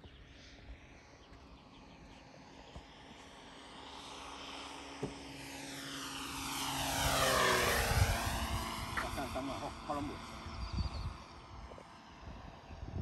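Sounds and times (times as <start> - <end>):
model plane flying past: 0.0 - 13.0.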